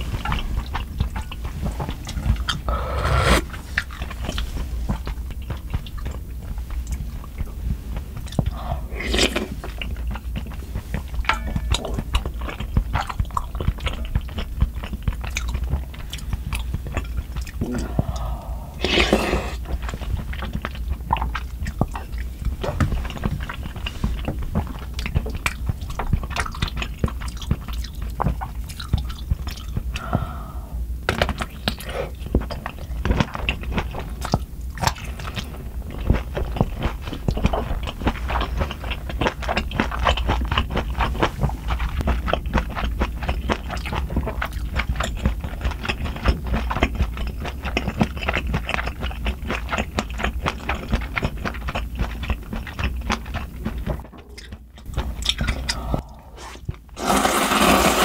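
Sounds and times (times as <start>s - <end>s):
chewing noodles with wet mouth sounds: 0.0s - 2.7s, 3.7s - 18.7s, 19.4s - 57.0s.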